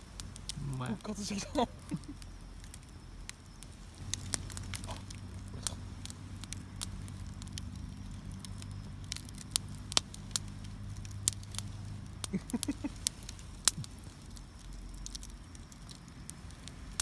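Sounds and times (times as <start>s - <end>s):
low steady hum: 0.0s - 17.0s
wood fire crackling and popping: 0.0s - 17.0s.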